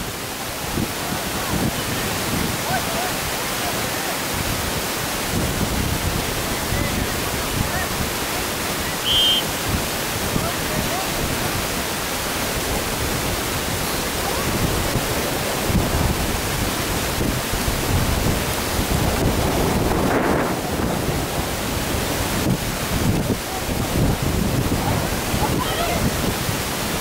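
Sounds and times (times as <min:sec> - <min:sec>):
wind buffeting microphone: 0:04.2 - 0:27.0.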